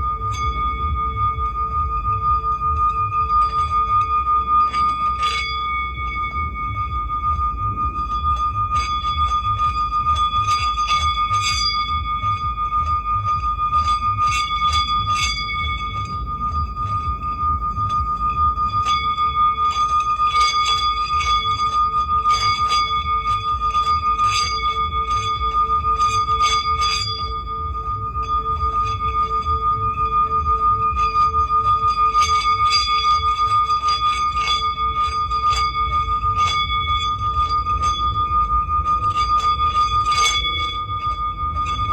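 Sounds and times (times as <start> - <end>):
low pulsing drone: 0.0 - 41.9
steady high tone: 0.0 - 41.9.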